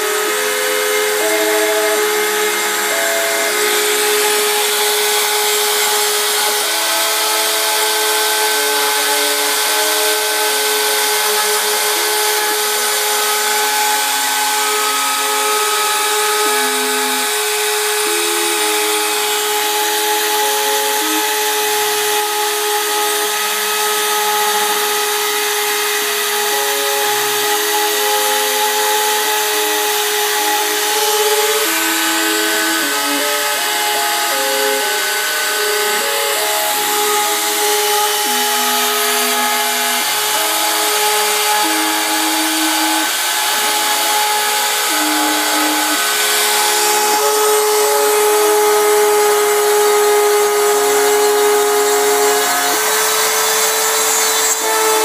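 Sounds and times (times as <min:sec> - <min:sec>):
bit cutting wood: 0:00.0 - 0:55.0
router spindle whine: 0:00.0 - 0:55.0
stepper motor tones: 0:00.0 - 0:55.0.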